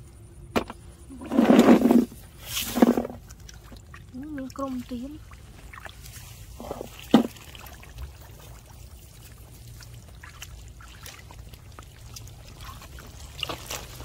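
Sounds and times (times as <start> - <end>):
water splash: 1.5 - 14.0
feet sloshing through water: 2.4 - 14.0.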